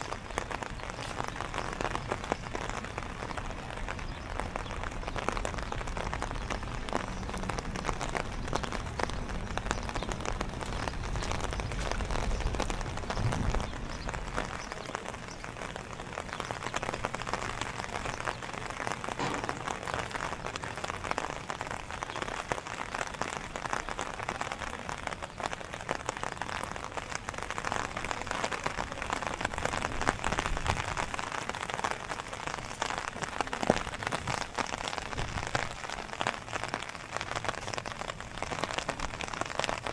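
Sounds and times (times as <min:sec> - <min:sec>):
rain falling: 0:00.0 - 0:39.9
raindrop taps: 0:00.0 - 0:39.9.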